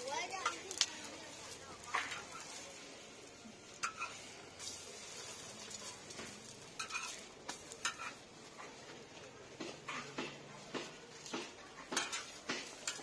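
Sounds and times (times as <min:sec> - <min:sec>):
egg sizzling on griddle: 0:00.0 - 0:10.2, 0:10.8 - 0:13.0
metal spatula scraping griddle: 0:00.0 - 0:10.3, 0:11.2 - 0:13.0.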